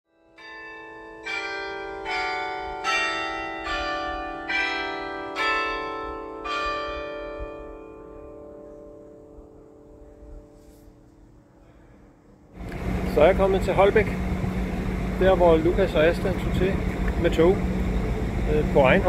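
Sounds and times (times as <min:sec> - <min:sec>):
bells ringing: 0:00.1 - 0:10.6, 0:12.6 - 0:19.0.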